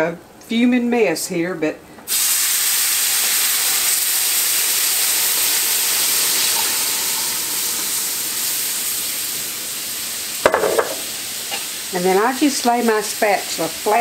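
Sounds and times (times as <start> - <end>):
liquid sizzling in hot roux: 2.1 - 14.0.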